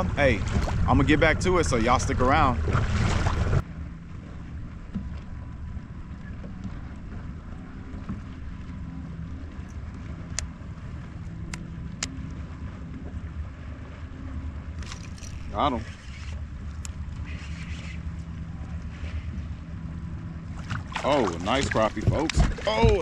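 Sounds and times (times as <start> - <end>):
rushing wind and water: 0.0 - 23.0
water against hull: 0.0 - 23.0.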